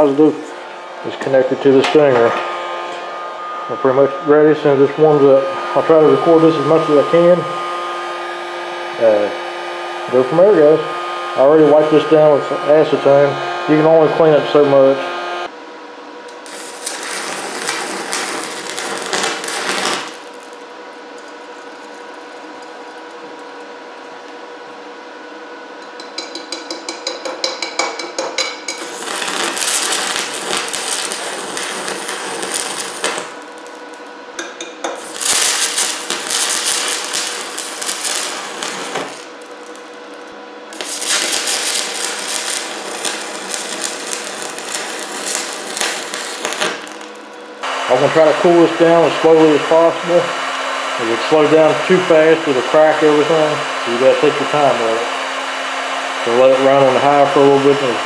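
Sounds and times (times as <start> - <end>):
welding arc crackling and hissing: 0.0 - 15.5, 16.3 - 24.7, 28.7 - 58.0
steady hum: 0.0 - 58.0.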